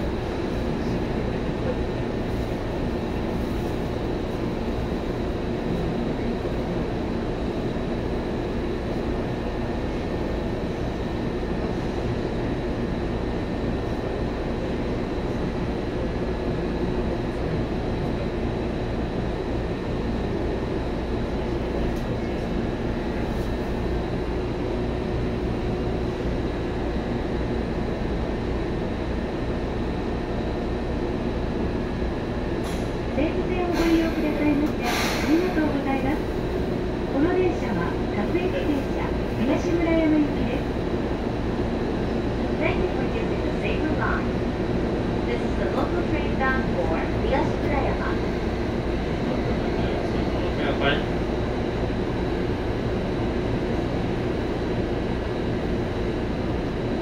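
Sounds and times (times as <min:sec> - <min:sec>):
train car hum and rumble: 0:00.0 - 0:57.0.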